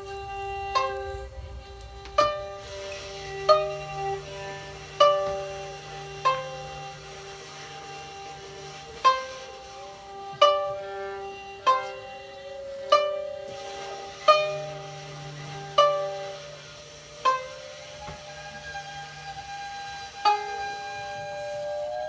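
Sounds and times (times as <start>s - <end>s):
low drone: 0.0s - 22.0s
plucked string notes: 0.0s - 22.0s.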